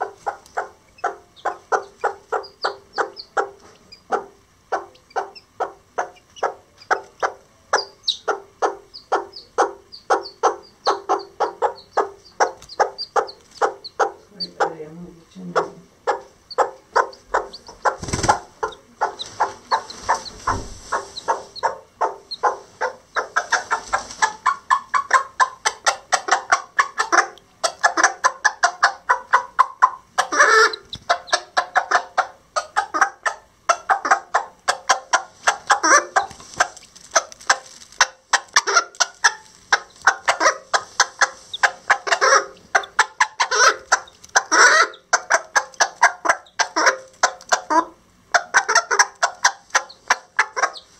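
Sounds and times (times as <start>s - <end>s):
hen clucking: 0.0s - 50.9s.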